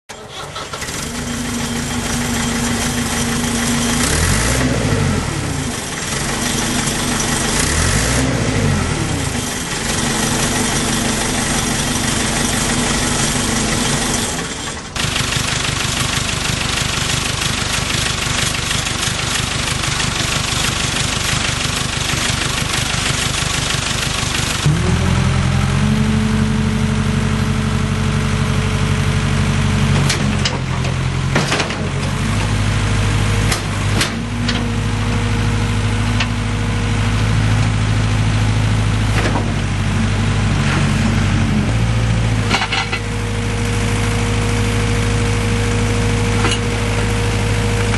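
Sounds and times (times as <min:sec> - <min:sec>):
diesel engine revving: 0:00.2 - 0:47.9.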